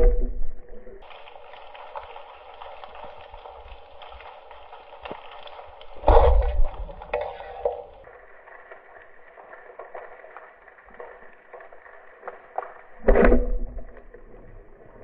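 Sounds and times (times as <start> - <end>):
underwater crackle and ticks: 0.0 - 15.0.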